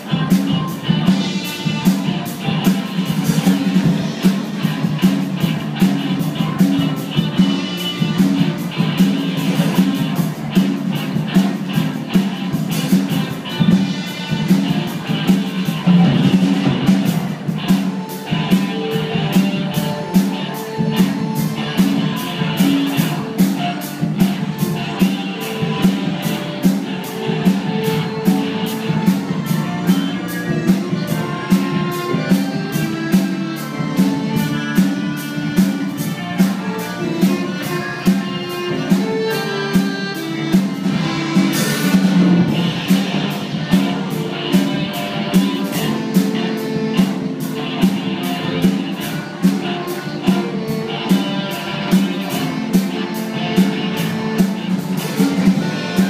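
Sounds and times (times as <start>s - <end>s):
live jazz-rock band: 0.0s - 56.0s.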